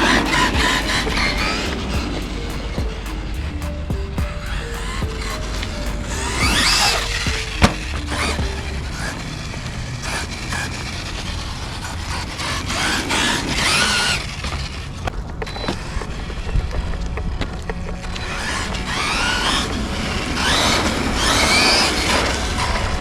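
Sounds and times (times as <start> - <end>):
background music: 0.0 - 10.5, 14.5 - 23.0
electric motor whining: 0.0 - 14.8, 18.1 - 23.0.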